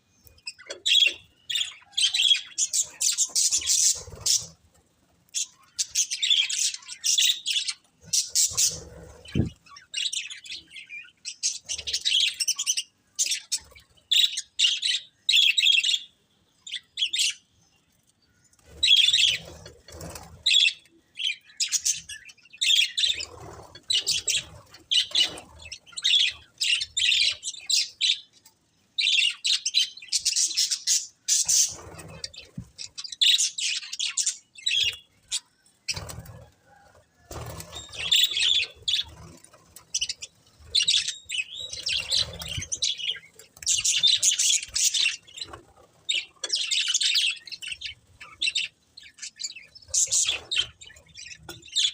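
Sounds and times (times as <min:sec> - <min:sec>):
budgerigars chirping and warbling: 0:00.2 - 0:04.7, 0:05.3 - 0:17.5, 0:18.5 - 0:51.9.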